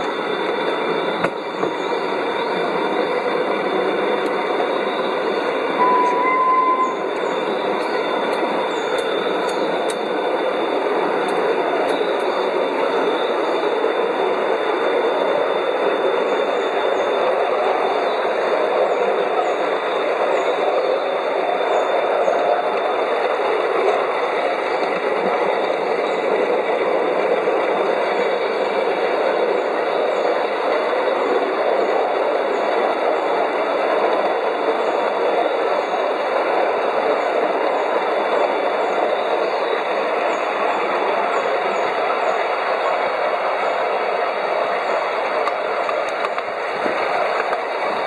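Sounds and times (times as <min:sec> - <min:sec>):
high whine: 0:00.0 - 0:48.0
train wheels rumbling on rail: 0:00.0 - 0:48.0.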